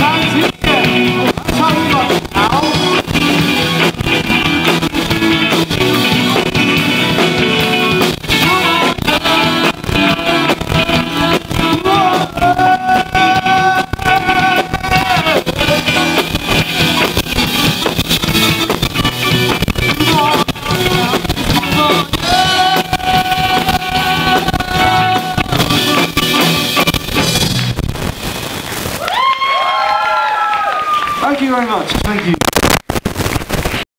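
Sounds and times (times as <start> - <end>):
live rock band playing: 0.0 - 28.4.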